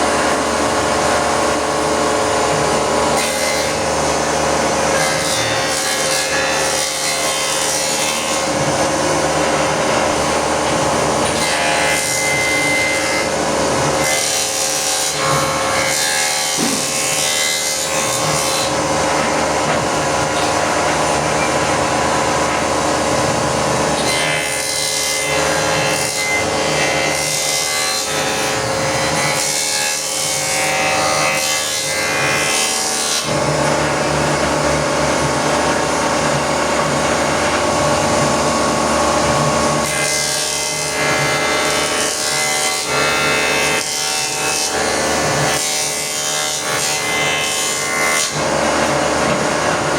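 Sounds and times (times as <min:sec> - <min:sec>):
electric planer shaving wood: 0:00.0 - 0:49.9.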